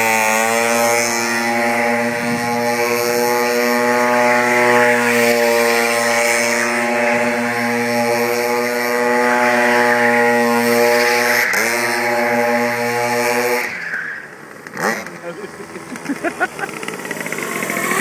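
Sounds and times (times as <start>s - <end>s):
go-kart engine at high revs: 0.0s - 18.0s.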